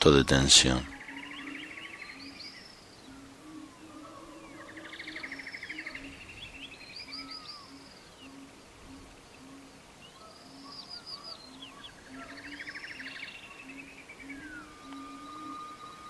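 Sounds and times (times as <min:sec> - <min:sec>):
birdsong trills and chirps: 0:00.0 - 0:16.0.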